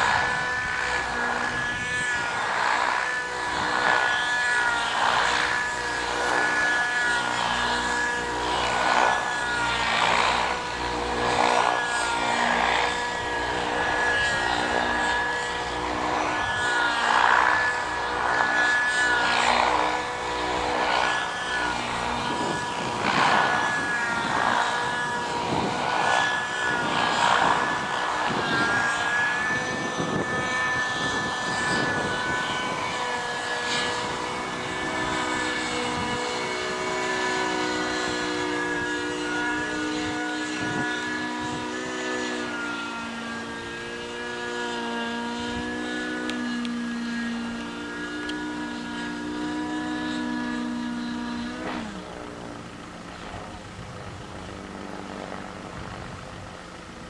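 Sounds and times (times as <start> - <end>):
model helicopter engine whining: 0.0 - 57.0
rotor blades swooshing: 0.0 - 57.0.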